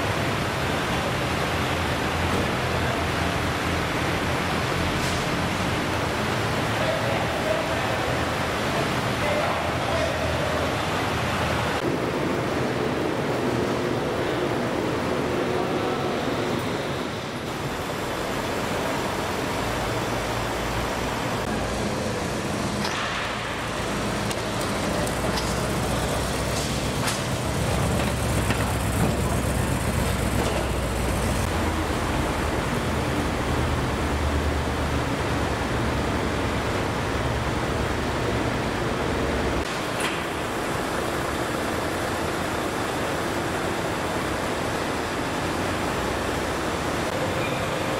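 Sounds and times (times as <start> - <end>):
car engines rumbling: 0.0 - 47.9.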